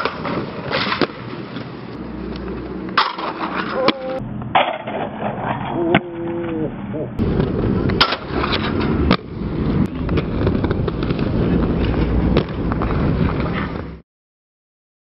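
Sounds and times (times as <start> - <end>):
skate wheels rolling on concrete: 0.0 - 14.0.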